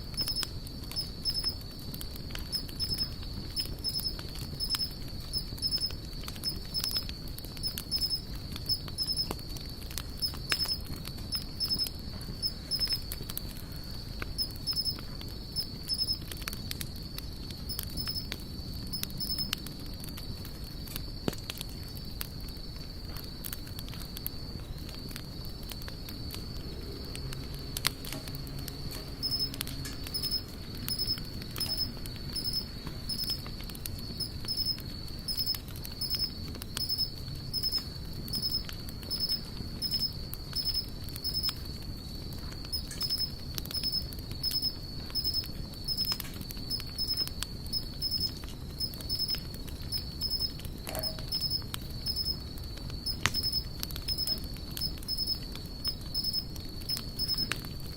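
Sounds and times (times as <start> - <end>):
campfire crackling and popping: 0.0 - 57.9
high insect trill: 0.0 - 57.9
rhythmic insect chirp: 0.0 - 57.9.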